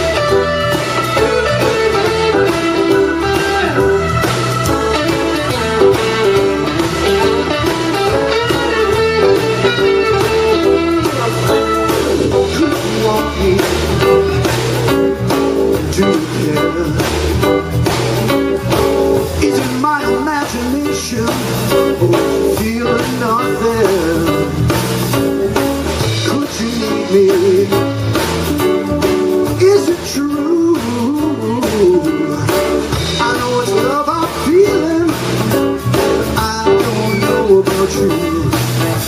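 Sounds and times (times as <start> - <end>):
bass line: 0.0 - 39.0
blues band playing live: 0.0 - 39.0
guitar leading: 0.0 - 39.0.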